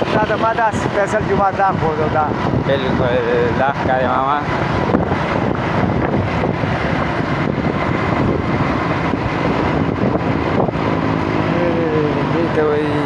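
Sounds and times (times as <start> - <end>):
vehicle noise: 0.0 - 13.0
wind rumble on microphone: 0.0 - 13.0.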